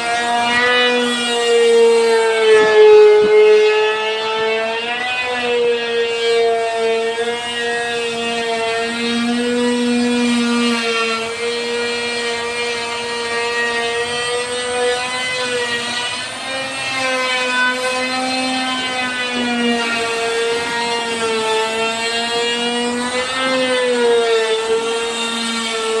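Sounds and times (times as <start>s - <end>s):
wood router whining: 0.0s - 26.0s.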